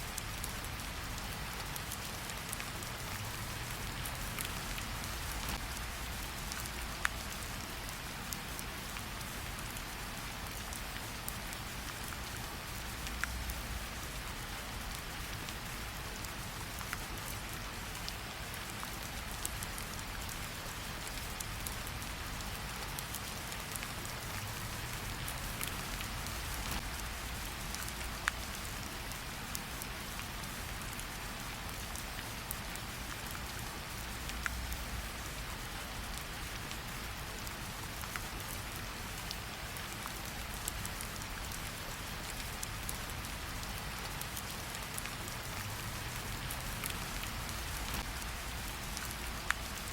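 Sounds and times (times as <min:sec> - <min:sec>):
steady rain falling: 0:00.0 - 0:49.9
wood fire crackle: 0:00.1 - 0:49.9.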